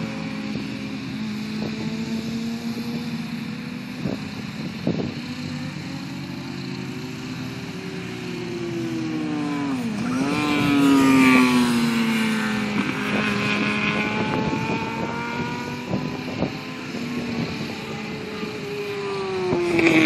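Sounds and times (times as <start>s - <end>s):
racing motorcycle engine: 0.0s - 20.0s.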